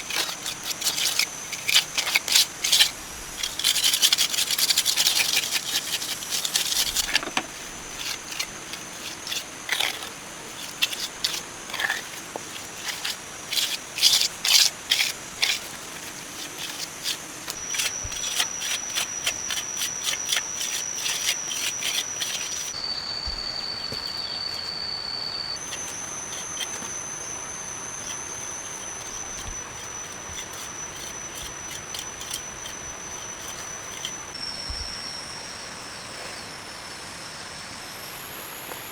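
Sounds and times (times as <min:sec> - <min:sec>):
rough scraping and rubbing: 0:00.0 - 0:24.2, 0:25.6 - 0:34.4
insects droning: 0:00.0 - 0:38.9.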